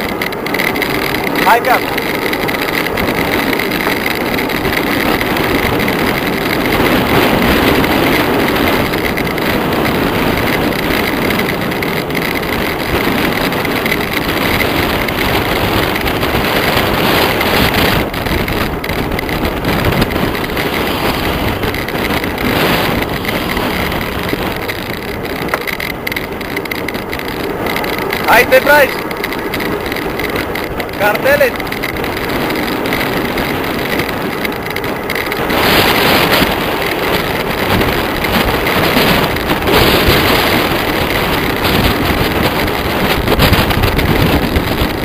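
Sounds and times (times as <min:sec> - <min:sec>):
wind rushing on microphone: 0:00.0 - 0:45.0.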